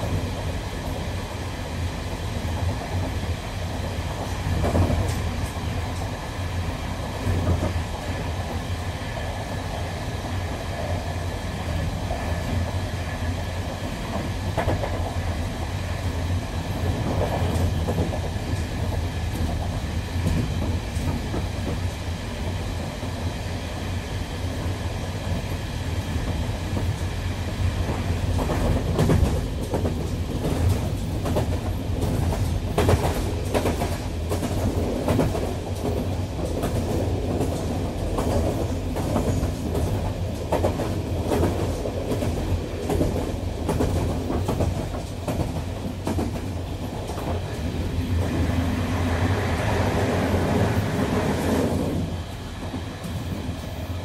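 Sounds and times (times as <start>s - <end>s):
electric train rumbling on rails: 0.0s - 54.0s.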